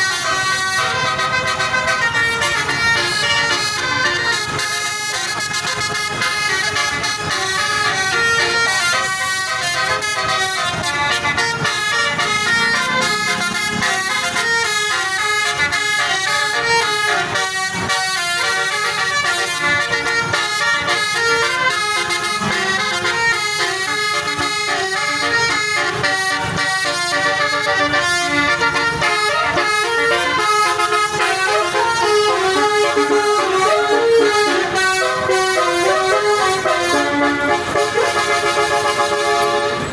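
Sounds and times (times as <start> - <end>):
bus musical horn melody: 0.0 - 39.9.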